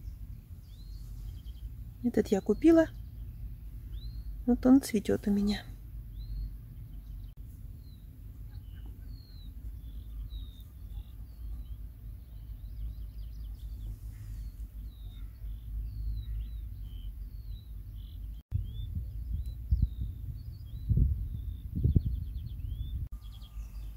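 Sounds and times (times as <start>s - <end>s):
steady low rumble: 0.0s - 23.6s
small birds chirping and singing: 0.0s - 23.9s.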